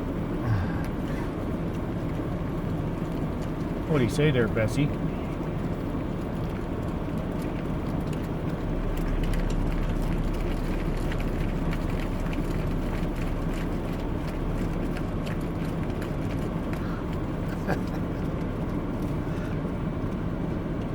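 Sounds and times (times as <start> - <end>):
vehicle engine and road noise: 0.0 - 20.9.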